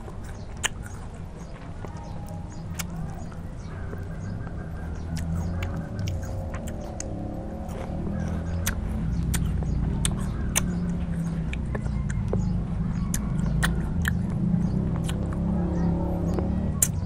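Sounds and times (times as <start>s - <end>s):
person chewing fruit: 0.0s - 17.0s
steady low hum: 0.0s - 17.0s.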